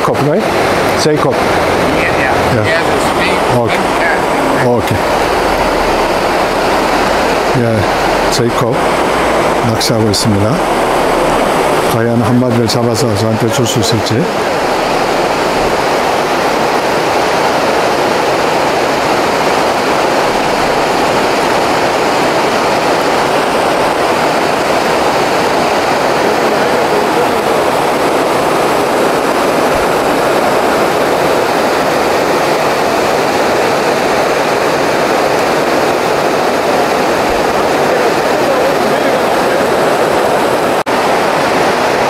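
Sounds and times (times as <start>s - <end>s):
river rushing over rocks: 0.0s - 42.0s.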